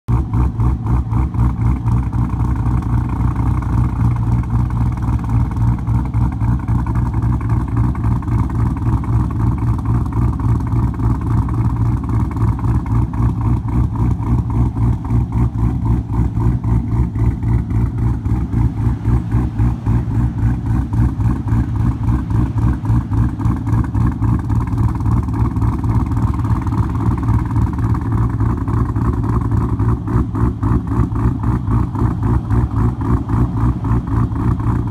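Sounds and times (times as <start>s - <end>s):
car engine idling with lope: 0.1s - 34.9s.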